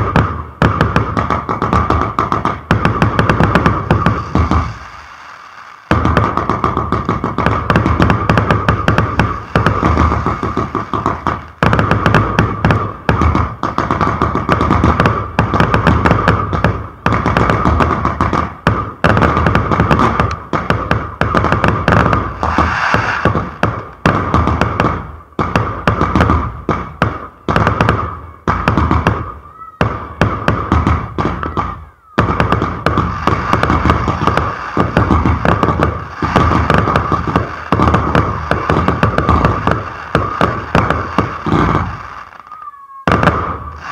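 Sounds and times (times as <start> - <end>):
fireworks banging: 0.0 - 43.9.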